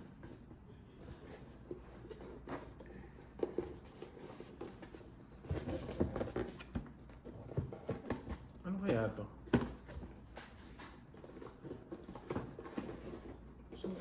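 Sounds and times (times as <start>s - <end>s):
box and packaging being handled: 0.1s - 14.0s.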